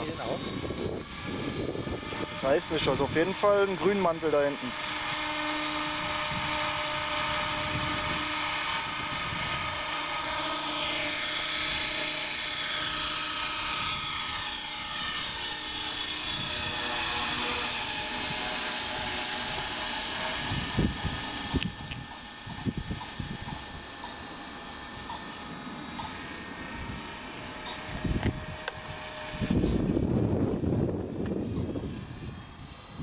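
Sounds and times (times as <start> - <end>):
rc helicopter motor whine: 0.0 - 33.0
rotor buzz: 0.0 - 33.0.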